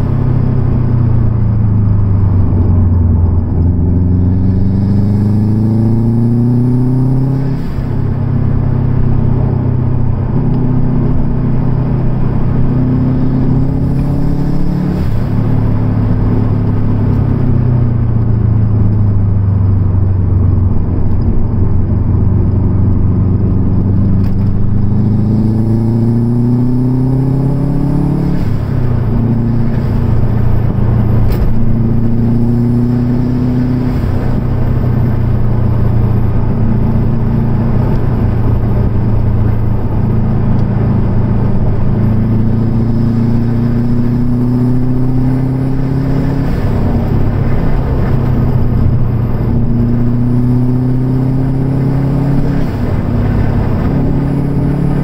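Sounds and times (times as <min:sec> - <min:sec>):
car engine accelerating: 0:00.0 - 0:55.0
road noise inside car: 0:00.0 - 0:55.0.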